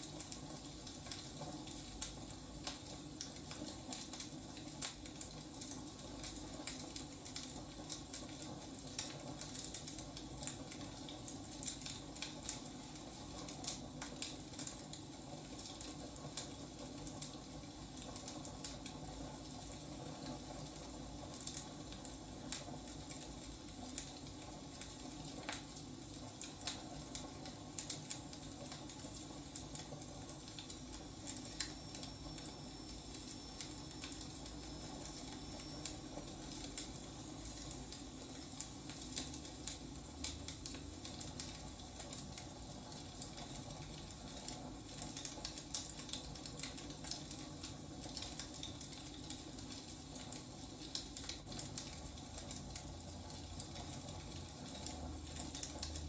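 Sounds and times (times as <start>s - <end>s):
burning logs crackling: 0.0s - 56.0s.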